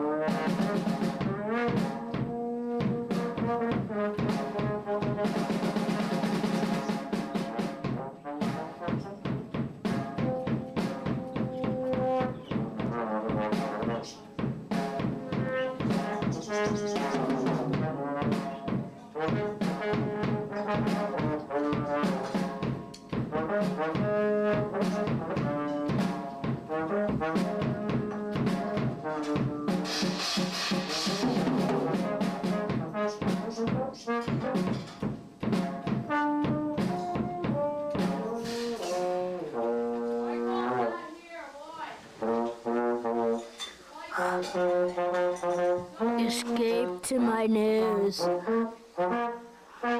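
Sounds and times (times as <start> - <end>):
brass melody: 0.0 - 40.9, 42.2 - 43.6, 44.3 - 49.9.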